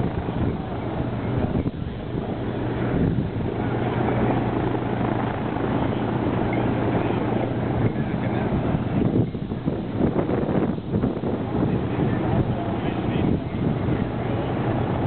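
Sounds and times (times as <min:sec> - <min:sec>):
distant aircraft engines droning: 0:00.0 - 0:15.0.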